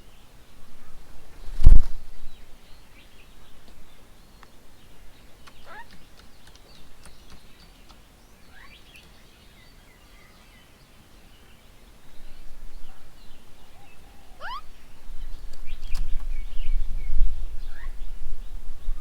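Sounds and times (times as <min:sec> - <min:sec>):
birds chirping: 0:02.1 - 0:19.0.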